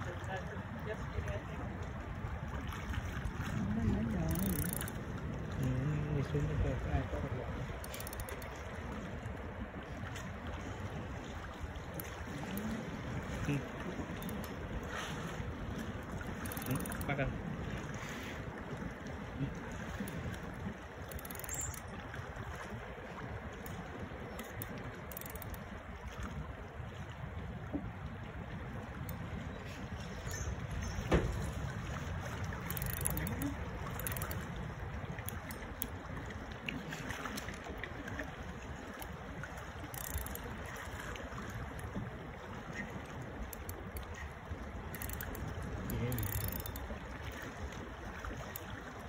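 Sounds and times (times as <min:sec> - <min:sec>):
sea water washing: 0:00.0 - 0:49.0
wind buffeting microphone: 0:00.0 - 0:49.0.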